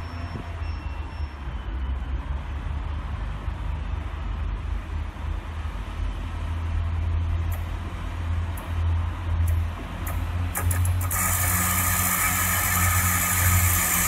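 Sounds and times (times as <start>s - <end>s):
diesel train engine rumble: 0.0s - 14.0s.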